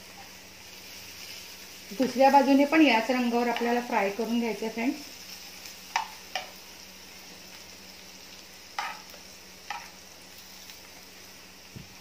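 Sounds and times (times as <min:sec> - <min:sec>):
frying in oil sizzling: 0:00.0 - 0:12.0.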